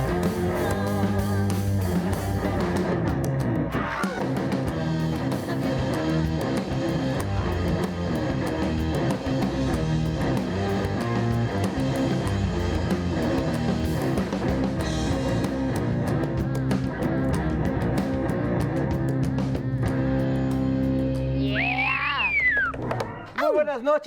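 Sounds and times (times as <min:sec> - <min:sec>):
instrumental rock music: 0:00.0 - 0:23.4.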